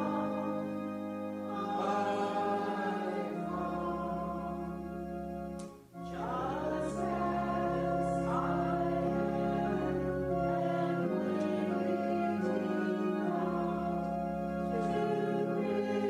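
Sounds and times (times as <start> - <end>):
congregation singing a hymn: 0.0 - 16.0
organ chords: 0.0 - 16.0.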